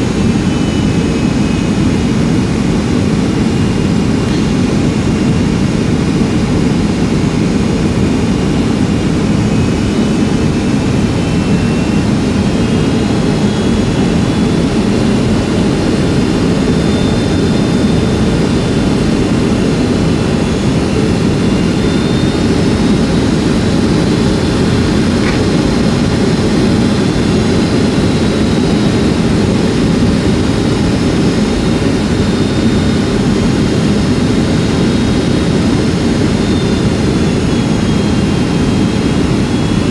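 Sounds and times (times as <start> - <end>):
faint high whining tones: 0.0 - 39.9
jet engine drone in cabin: 0.0 - 39.9.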